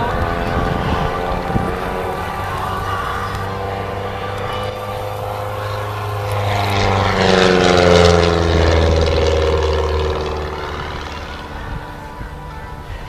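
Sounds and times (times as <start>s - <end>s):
biplane engine and propeller: 0.0s - 13.0s.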